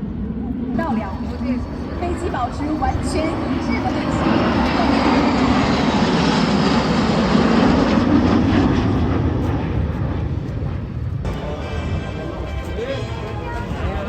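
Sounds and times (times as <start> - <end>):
plane engine flying past: 0.0 - 14.0.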